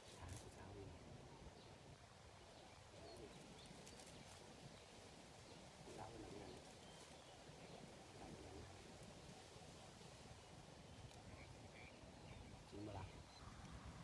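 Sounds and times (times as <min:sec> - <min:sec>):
distant bird calls: 0:02.4 - 0:13.6.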